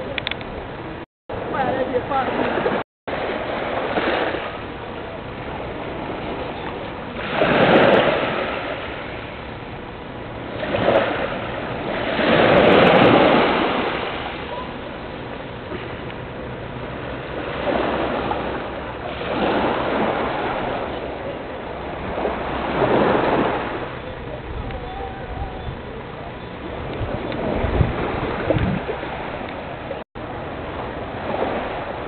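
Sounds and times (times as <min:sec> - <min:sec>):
small waves washing on beach: 0:00.0 - 0:32.0.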